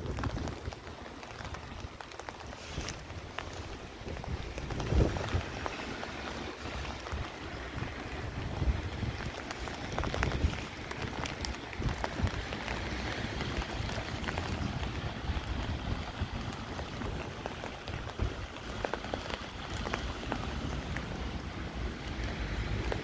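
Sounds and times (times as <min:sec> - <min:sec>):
wind buffeting the microphone: 0:00.0 - 0:23.0.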